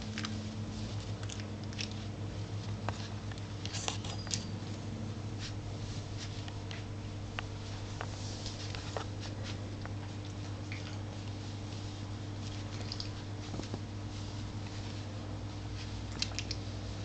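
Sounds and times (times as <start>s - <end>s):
puppies scrabbling on blanket: 0.0s - 17.0s
steady low hum: 0.0s - 17.0s.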